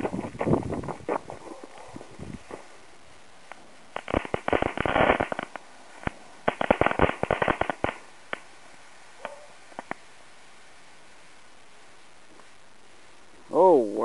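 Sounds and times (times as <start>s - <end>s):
firework crackling pops: 0.0s - 12.8s.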